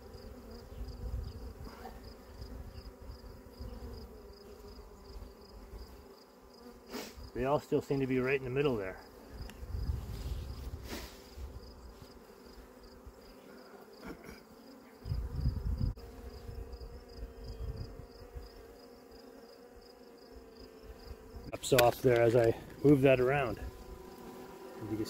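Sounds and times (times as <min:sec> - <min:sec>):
honeybees humming: 0:00.0 - 0:25.0.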